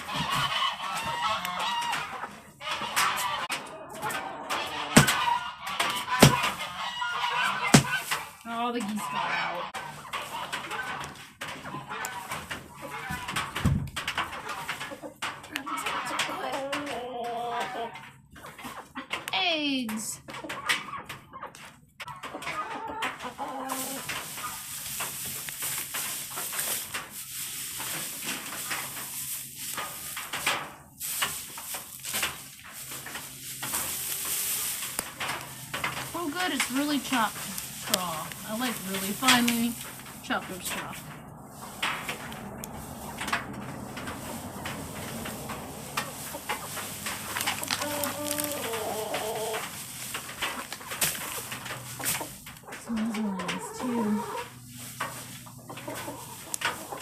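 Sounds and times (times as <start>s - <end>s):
straw rustling: 0.0s - 18.9s, 21.6s - 57.0s
chickens clucking: 0.0s - 57.0s.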